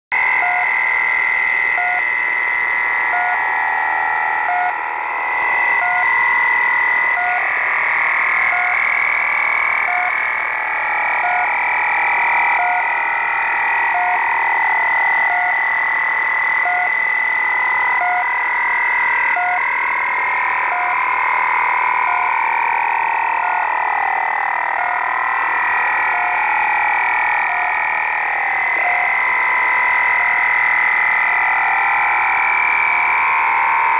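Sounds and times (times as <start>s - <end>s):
warbling whistling tones: 0.2s - 11.5s, 13.7s - 33.9s.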